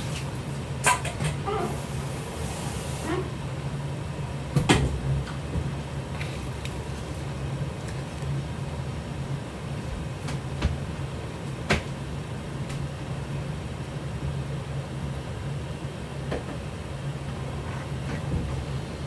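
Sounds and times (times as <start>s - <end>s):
electric hob and fan humming: 0.0s - 19.0s.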